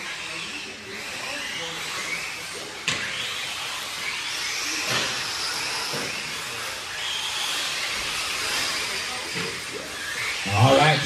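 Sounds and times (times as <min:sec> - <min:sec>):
electric toy car motors whining: 0:00.0 - 0:11.0.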